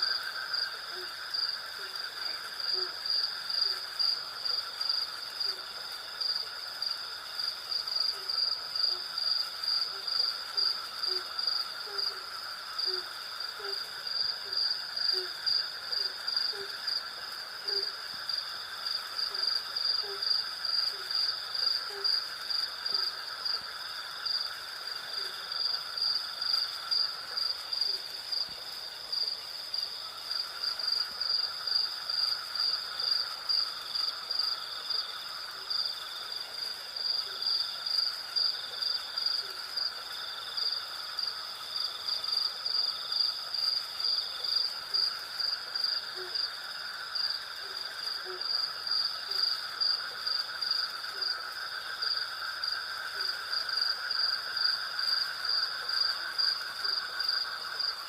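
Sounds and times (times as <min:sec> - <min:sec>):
crickets chirping: 0:00.0 - 0:58.0
insects trilling: 0:00.0 - 0:58.0.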